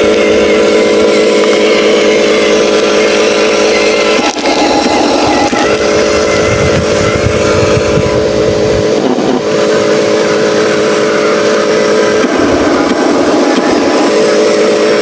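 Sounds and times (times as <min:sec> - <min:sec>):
toy truck motor whine: 0:00.0 - 0:15.0.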